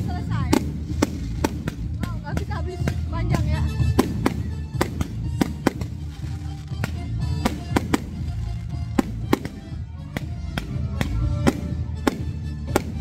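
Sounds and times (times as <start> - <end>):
fireworks bangs: 0.0 - 13.0
music playing: 0.0 - 13.0.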